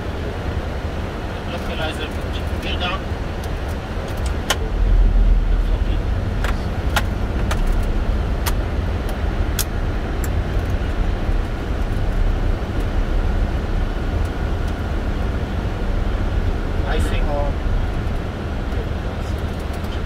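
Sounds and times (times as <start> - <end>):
cockpit low rumble: 0.0 - 20.0.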